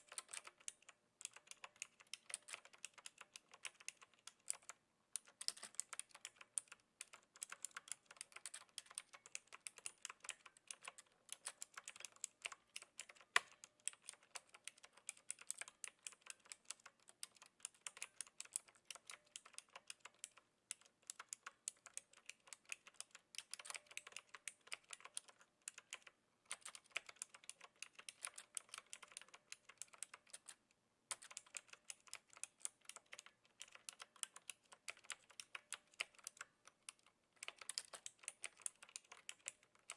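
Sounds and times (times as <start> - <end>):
mechanical keyboard typing clicks: 0.0 - 39.9.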